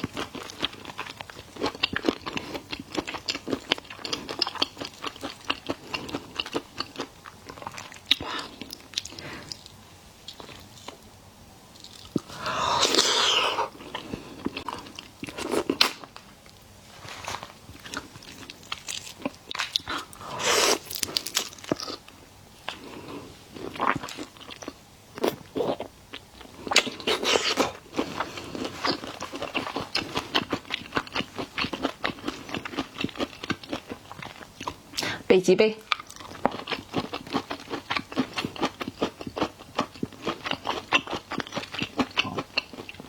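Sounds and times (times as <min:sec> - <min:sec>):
person chewing and smacking: 0:00.0 - 0:11.0, 0:11.8 - 0:16.2, 0:17.3 - 0:35.0, 0:35.8 - 0:43.0.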